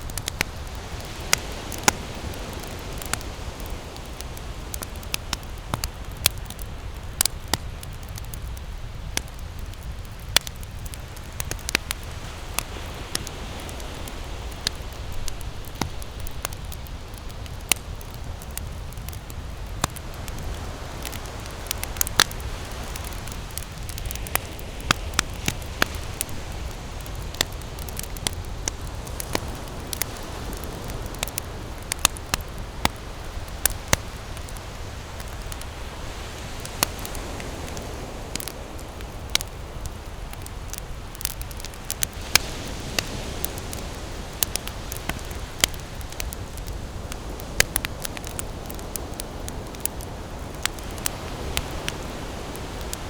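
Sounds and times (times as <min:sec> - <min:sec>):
campfire crackling and popping: 0:00.0 - 0:53.0
low fire rumble: 0:00.0 - 0:53.0.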